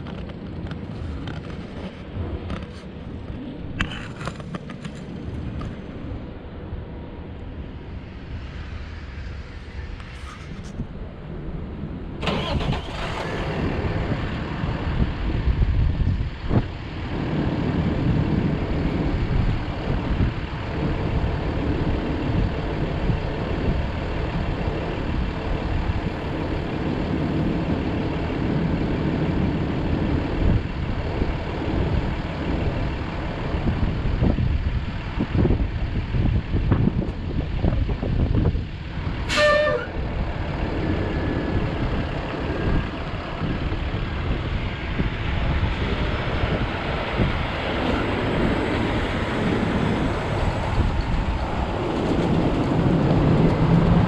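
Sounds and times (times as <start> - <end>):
truck engine starting and running: 0.0 - 54.0.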